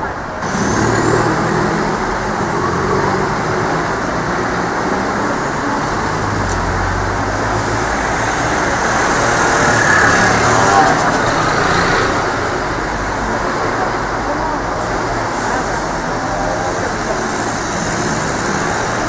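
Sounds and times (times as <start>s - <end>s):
traffic driving past: 0.0s - 19.0s.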